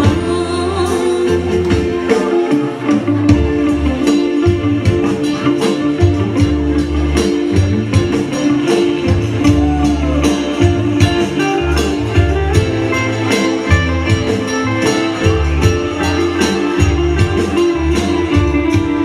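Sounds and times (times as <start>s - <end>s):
guitar: 0.0s - 19.0s
live pop band music: 0.0s - 19.0s
pulsing bass line: 0.0s - 19.0s.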